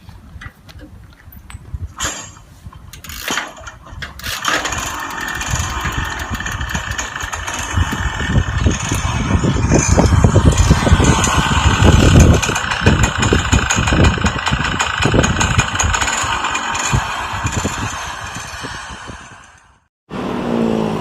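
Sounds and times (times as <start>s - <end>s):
motorcycle engine starting and running: 3.0s - 21.0s.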